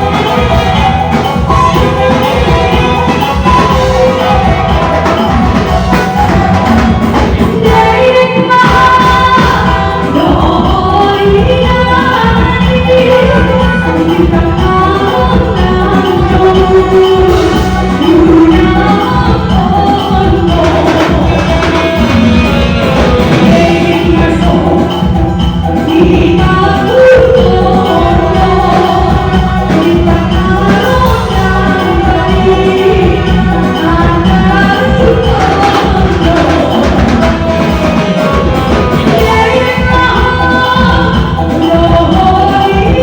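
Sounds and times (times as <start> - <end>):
party band music over speakers: 0.0 - 43.0
person singing: 0.0 - 43.0
steady drum beat: 0.0 - 43.0.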